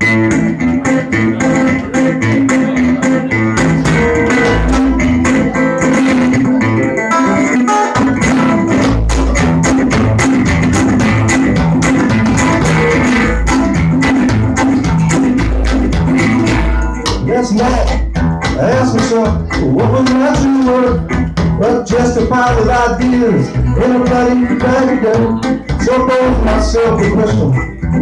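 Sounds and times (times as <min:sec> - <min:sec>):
double bass low notes: 0:00.0 - 0:07.2, 0:08.0 - 0:28.0
resonator guitar picking: 0:00.0 - 0:28.0.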